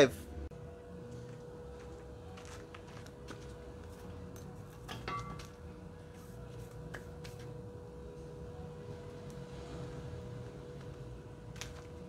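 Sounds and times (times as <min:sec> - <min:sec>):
faint hum and low rumble: 0:00.0 - 0:12.0.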